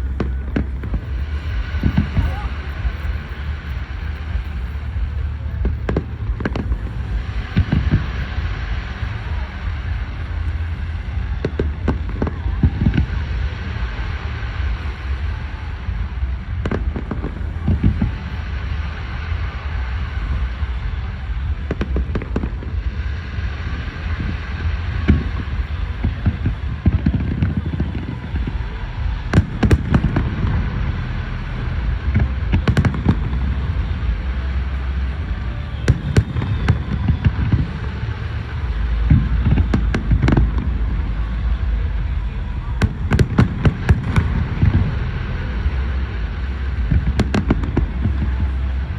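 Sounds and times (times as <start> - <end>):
fireworks bursting: 0.0 - 48.9
low rumble: 0.0 - 48.9.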